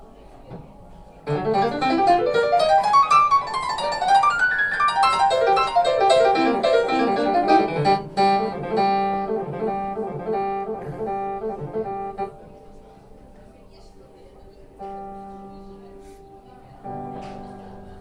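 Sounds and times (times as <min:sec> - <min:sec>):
jazz grand piano: 0:01.2 - 0:18.0.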